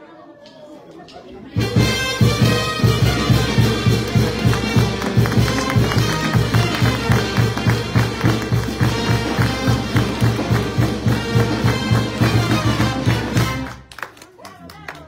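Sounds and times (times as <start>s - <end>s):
brass band playing: 1.6s - 14.0s
people clapping: 2.3s - 15.0s.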